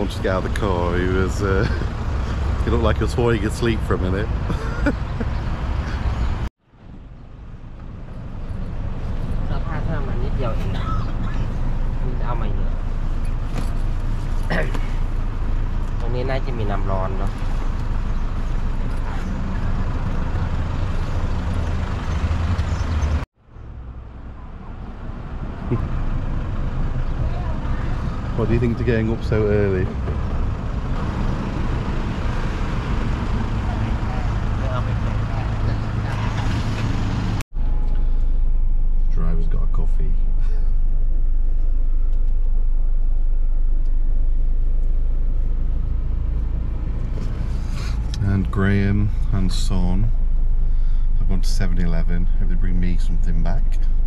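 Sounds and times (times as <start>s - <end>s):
car engine idling: 0.0s - 36.4s, 37.5s - 54.0s
street noise: 0.0s - 54.0s.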